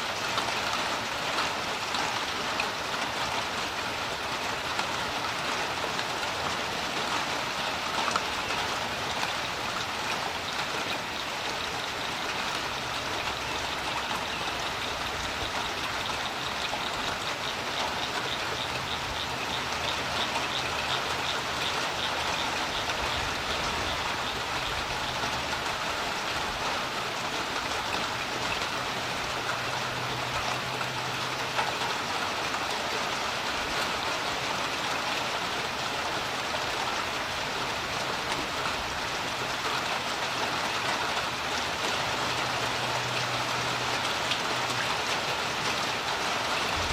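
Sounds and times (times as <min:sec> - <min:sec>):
rain pattering on water: 0:00.0 - 0:46.9.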